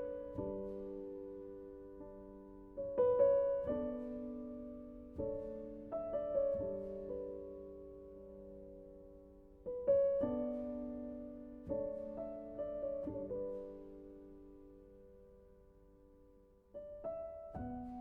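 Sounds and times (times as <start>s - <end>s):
gentle solo piano music: 0.0s - 18.0s.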